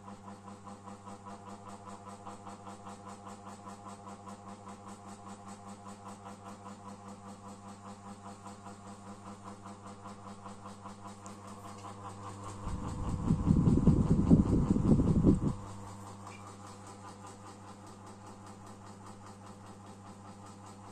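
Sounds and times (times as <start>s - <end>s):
ceiling fan motor humming: 0.0s - 20.9s.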